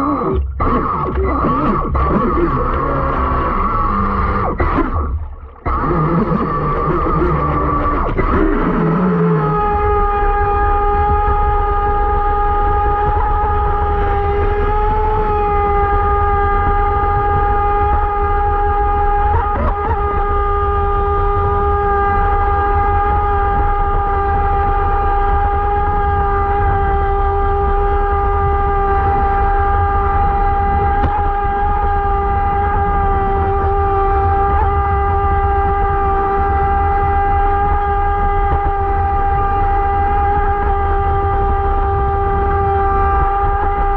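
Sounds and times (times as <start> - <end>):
electric motor whining: 0.0 - 43.9
low rumble: 0.0 - 43.9.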